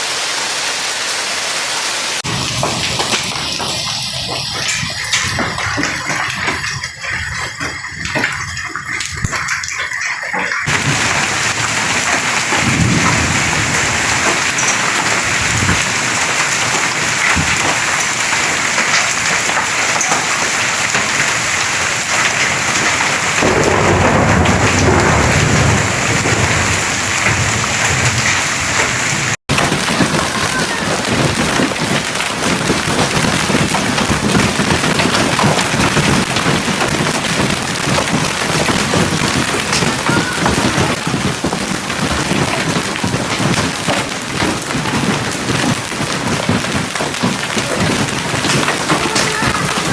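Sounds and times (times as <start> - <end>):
hail and heavy rain clattering: 2.2 - 49.9.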